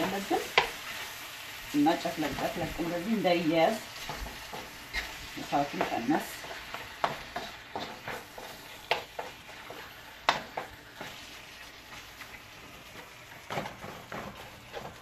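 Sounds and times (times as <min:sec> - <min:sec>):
meat and onions sizzling: 0:00.0 - 0:15.0
spatula scraping and knocking pan: 0:00.0 - 0:15.0.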